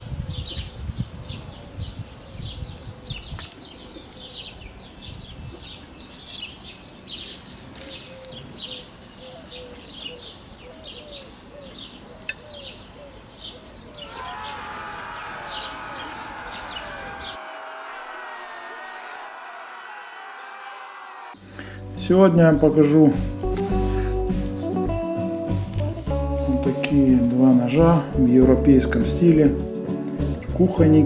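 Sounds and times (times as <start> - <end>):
birds chirping: 0.0 - 17.5, 21.4 - 31.0.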